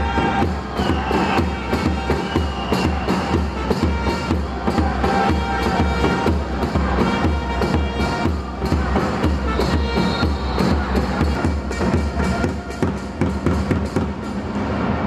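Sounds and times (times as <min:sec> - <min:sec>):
music with bass drum beat: 0:00.0 - 0:14.2.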